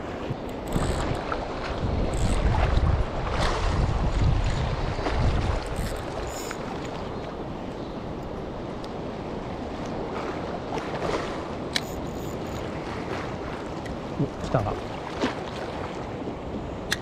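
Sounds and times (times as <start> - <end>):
sea waves: 0.0 - 17.0
strong wind: 0.0 - 17.0.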